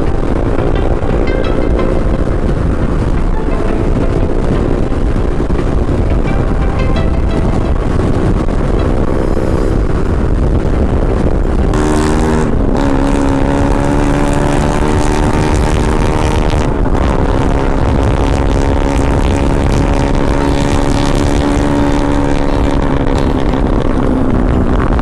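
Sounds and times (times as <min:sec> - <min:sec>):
scooter engine running: 0:00.0 - 0:25.0
wind on microphone: 0:00.0 - 0:25.0.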